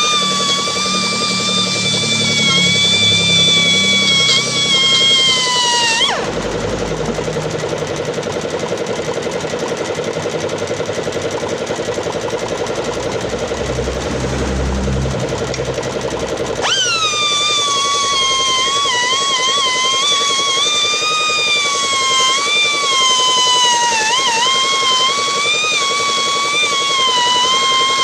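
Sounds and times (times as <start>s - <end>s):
air grinder whining and grinding: 0.0s - 28.0s.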